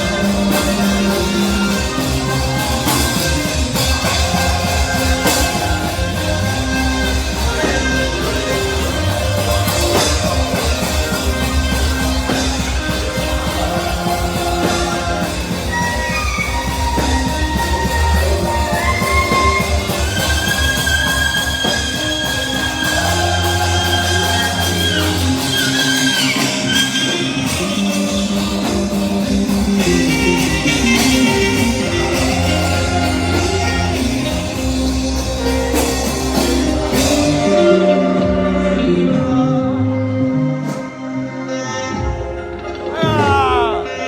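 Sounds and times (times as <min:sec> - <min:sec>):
bass and drums: 0:00.0 - 0:41.2, 0:42.0 - 0:44.0
person singing: 0:00.0 - 0:44.0
saxophone long high notes: 0:00.0 - 0:44.0.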